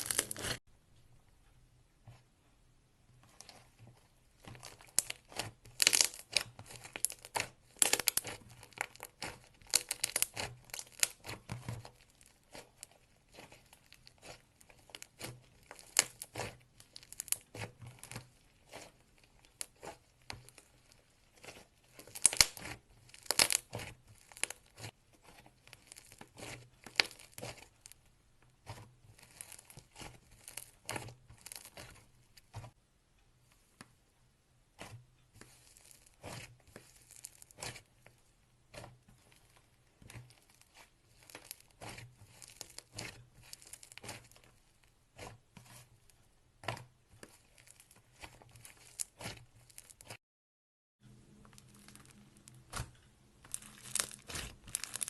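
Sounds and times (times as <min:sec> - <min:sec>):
slime crackling and popping: 0:00.0 - 0:00.6, 0:04.4 - 0:32.6, 0:34.8 - 0:50.2, 0:51.3 - 0:55.0.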